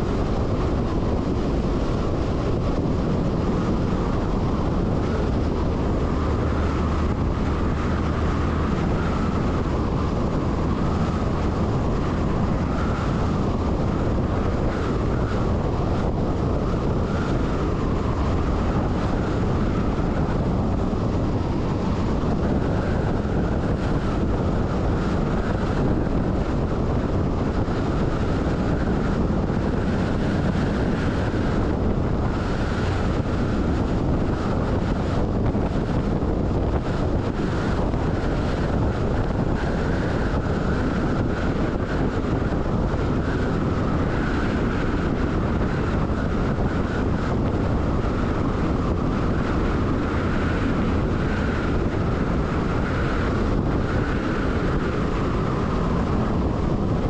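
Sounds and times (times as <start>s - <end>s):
truck engine and road rumble: 0.0s - 57.0s
wind buffeting microphone: 0.0s - 57.0s.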